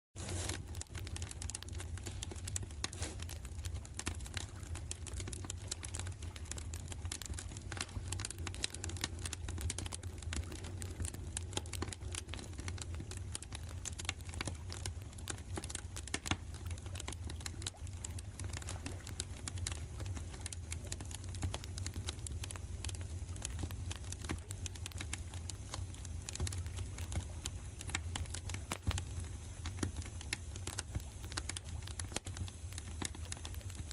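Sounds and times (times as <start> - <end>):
campfire crackling and popping: 0.2 - 33.9.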